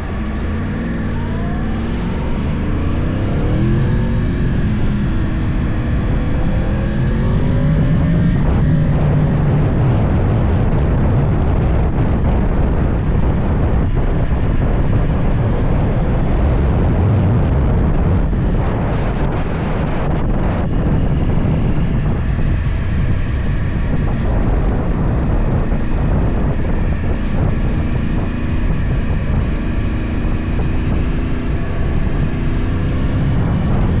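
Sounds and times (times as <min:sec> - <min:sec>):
motorcycle engine revving: 0:00.0 - 0:34.0
wind noise at speed: 0:00.0 - 0:34.0.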